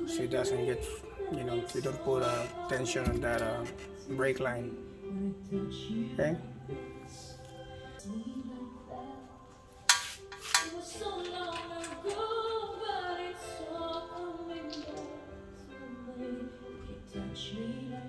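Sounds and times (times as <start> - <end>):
music with sung melody: 0.0 - 18.0.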